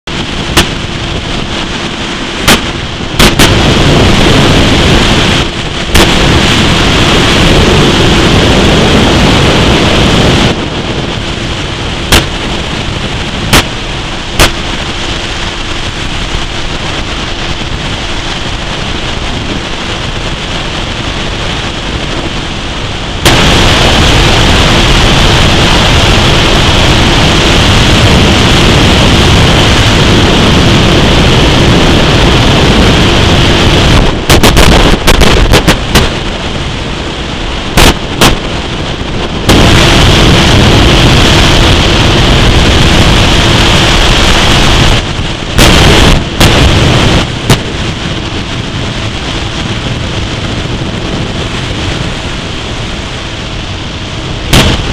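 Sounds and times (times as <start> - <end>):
outboard motor drone: 0.0 - 54.9
wind blasting microphone: 0.0 - 54.9.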